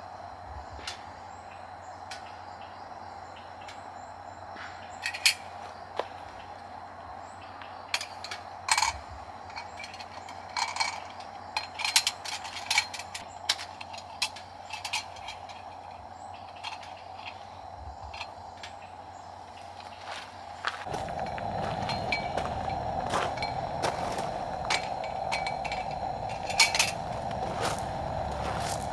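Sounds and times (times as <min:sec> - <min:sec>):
faint background hum: 0:00.0 - 0:28.9.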